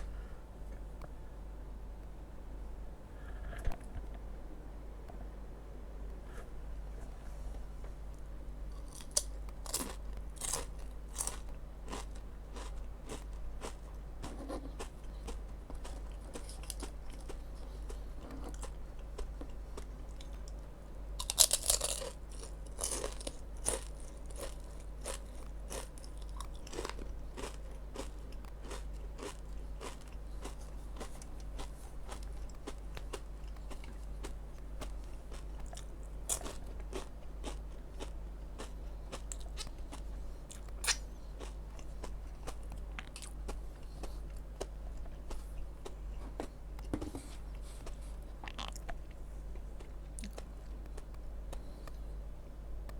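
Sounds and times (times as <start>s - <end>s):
crisps crunching while chewed: 8.7s - 46.9s, 47.5s - 51.7s.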